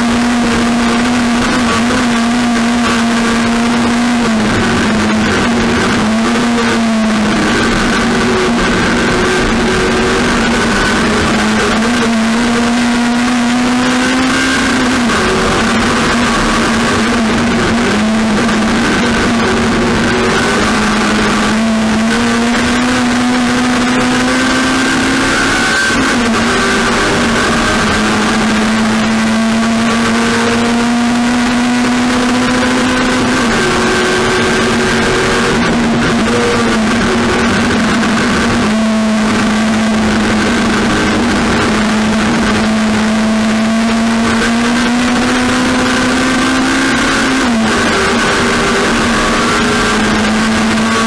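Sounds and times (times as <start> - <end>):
race car engine running hard: 0.0 - 51.0.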